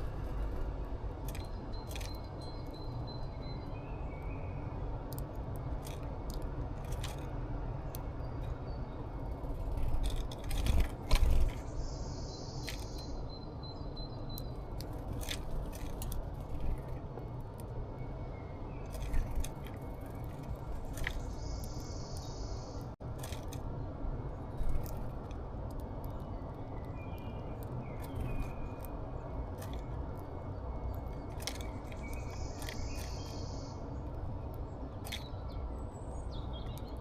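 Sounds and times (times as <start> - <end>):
birds pecking and cracking seeds: 0.0 - 13.2, 14.3 - 17.8, 18.7 - 22.3, 23.0 - 23.8, 24.4 - 37.0
steady low rumble: 0.0 - 37.0.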